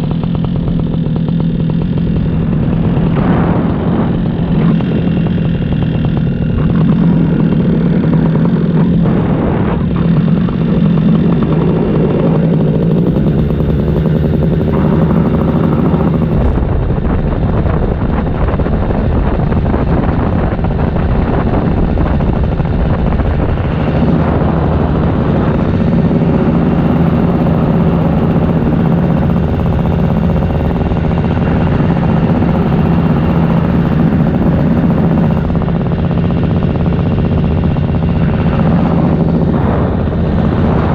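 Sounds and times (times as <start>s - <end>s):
paramotor engine drone: 0.0s - 40.9s
wind noise on microphone: 0.0s - 40.9s.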